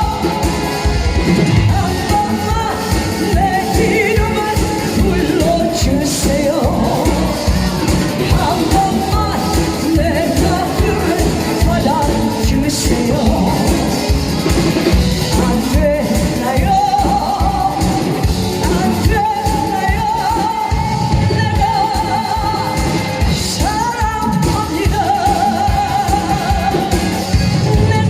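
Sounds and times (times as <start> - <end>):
backing music with steady beat: 0.0 - 28.0
person singing with vibrato: 0.0 - 28.0.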